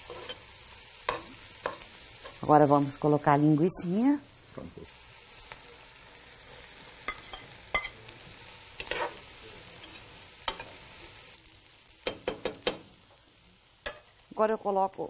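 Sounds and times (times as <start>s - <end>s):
sausage sizzling in a pot: 0.0s - 15.0s.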